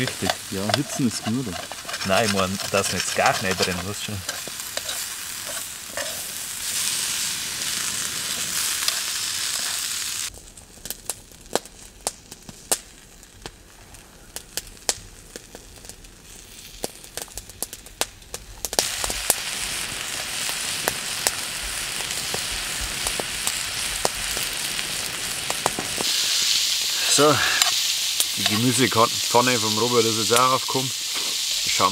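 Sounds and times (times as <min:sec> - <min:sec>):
campfire wood crackling: 0:00.0 - 0:31.9
food sizzling in a frying pan: 0:00.0 - 0:31.9.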